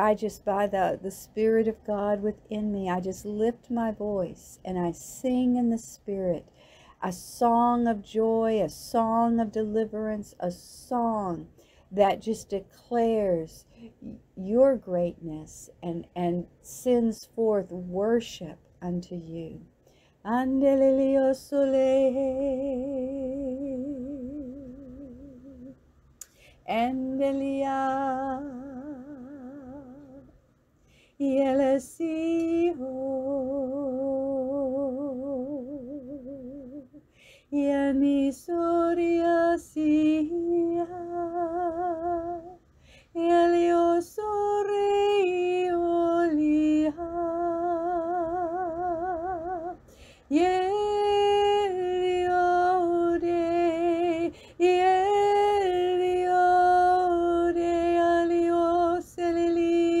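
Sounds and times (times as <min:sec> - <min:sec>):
woman singing unaccompanied: 0:00.0 - 0:30.4, 0:31.2 - 1:00.0.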